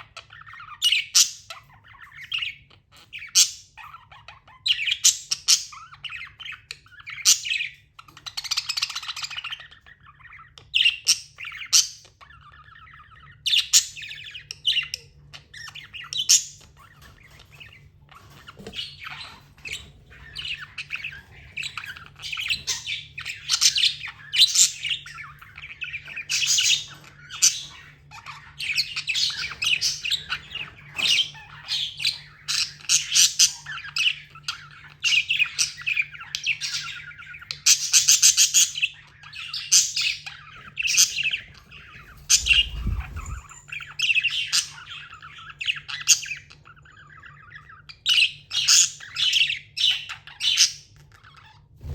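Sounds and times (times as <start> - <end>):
budgerigars chirping and squawking: 0.0 - 51.9.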